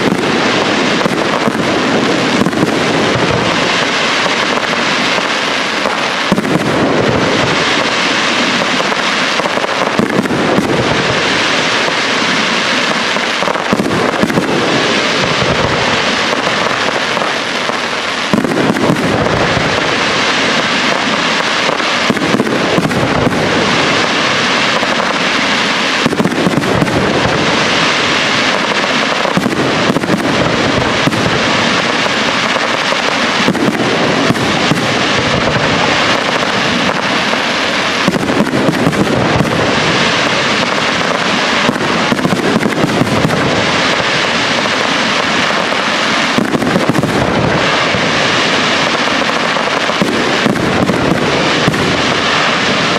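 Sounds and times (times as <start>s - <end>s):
fireworks bursts and crackling: 0.0s - 52.9s
heavy firework booms: 0.0s - 52.9s.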